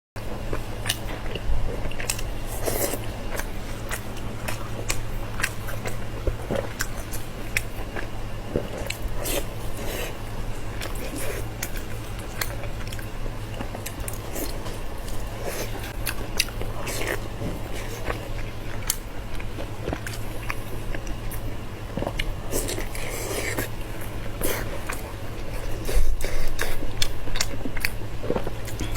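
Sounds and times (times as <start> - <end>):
chewing with crisp crunches: 0.4 - 28.9.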